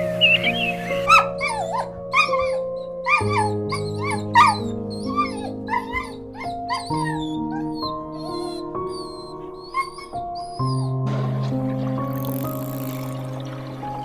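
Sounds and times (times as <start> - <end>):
animal yelping: 0.0 - 14.0
background music: 0.0 - 14.0.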